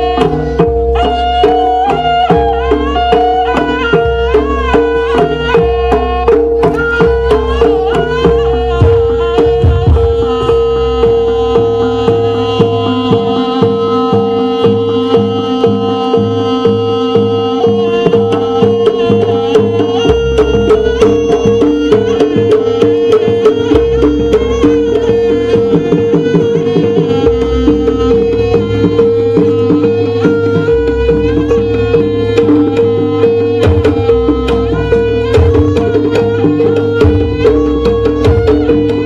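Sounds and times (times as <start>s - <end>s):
hand drums beating: 0.0s - 39.0s
held tone: 0.0s - 39.0s.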